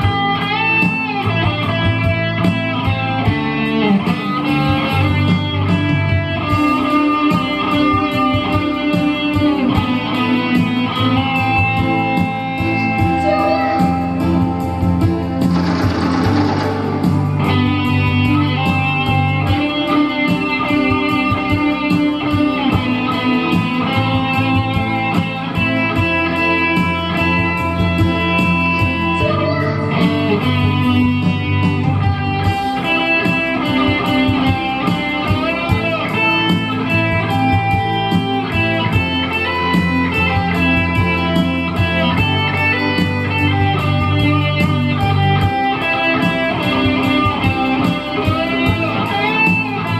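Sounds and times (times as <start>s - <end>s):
bass line: 0.0s - 49.9s
plucked guitar: 0.0s - 49.9s.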